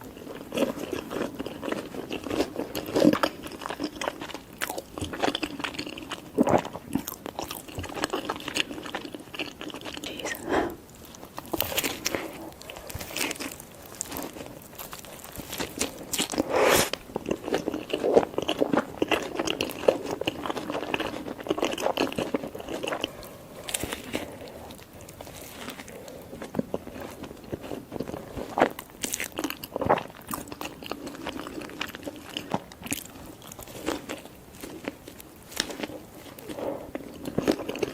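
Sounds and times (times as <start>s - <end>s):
crunchy chewing: 0.0s - 37.9s.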